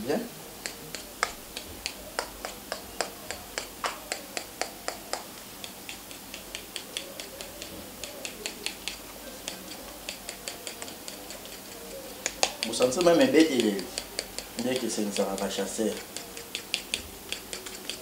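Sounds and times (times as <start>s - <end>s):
metal spoon clicking against bowl: 0.6s - 18.0s.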